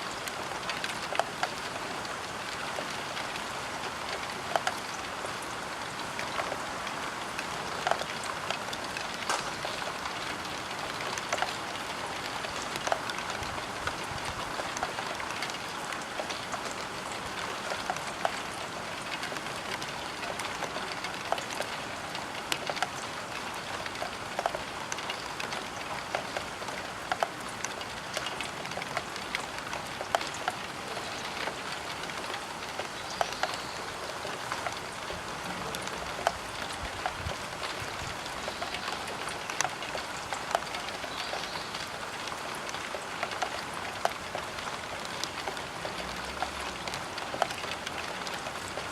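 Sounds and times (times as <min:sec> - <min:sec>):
rain hiss on window: 0:00.0 - 0:48.9
raindrops tapping on window: 0:07.3 - 0:48.9.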